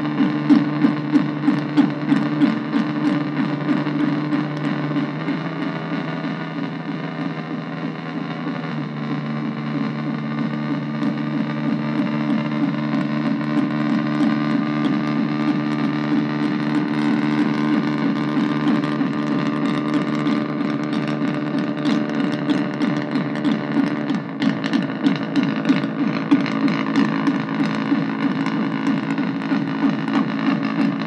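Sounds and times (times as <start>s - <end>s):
distorted synthesizer drone: 0.0s - 31.0s.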